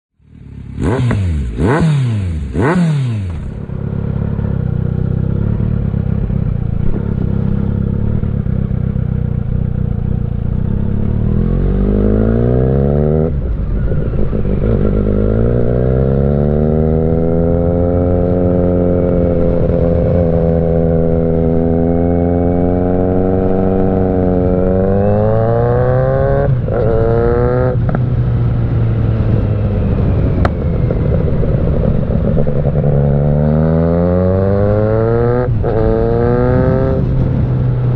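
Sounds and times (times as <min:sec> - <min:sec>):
motorcycle engine revving: 0:00.2 - 0:37.9.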